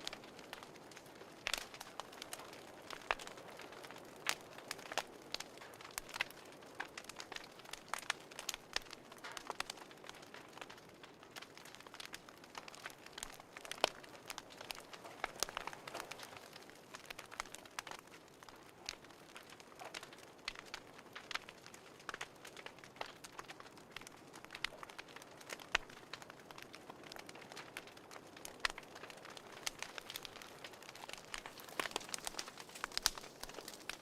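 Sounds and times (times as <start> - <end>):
fire crackling and popping: 0.0 - 34.0
soft hiss of fire: 0.0 - 34.0.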